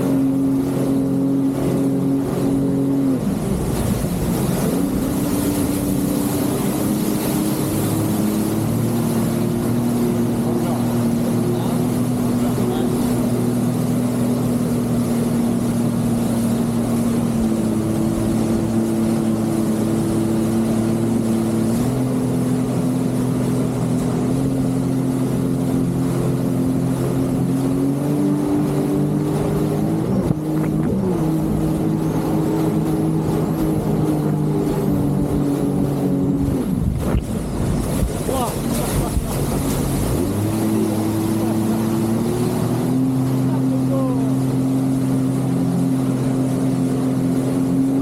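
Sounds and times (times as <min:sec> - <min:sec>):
jet ski engine running: 0:00.0 - 0:48.0.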